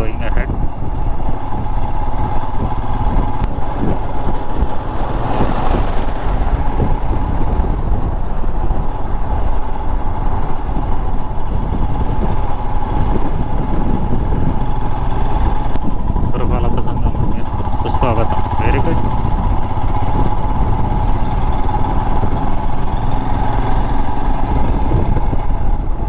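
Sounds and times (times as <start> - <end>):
motorcycle engine running: 0.0 - 26.0
wind rumble on microphone: 0.0 - 26.0.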